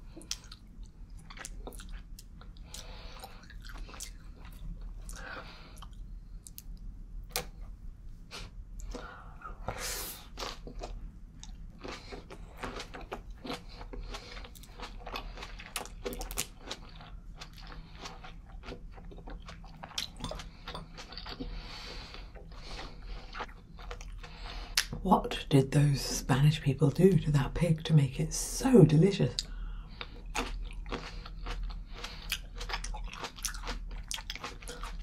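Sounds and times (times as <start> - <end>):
chewing grapes: 0.1 - 7.5, 10.2 - 25.1, 29.3 - 35.0.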